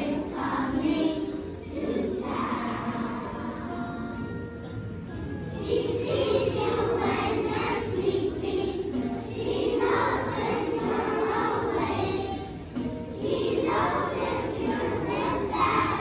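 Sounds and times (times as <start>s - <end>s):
children singing together: 0.0s - 4.3s, 5.5s - 16.0s
music playing along: 0.0s - 16.0s.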